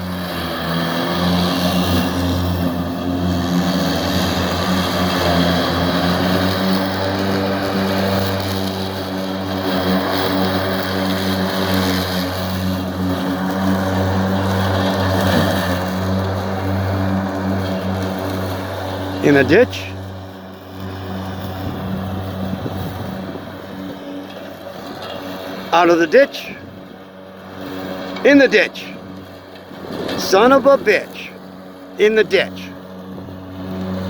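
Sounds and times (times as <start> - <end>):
riding lawn mower running: 0.0 - 34.0.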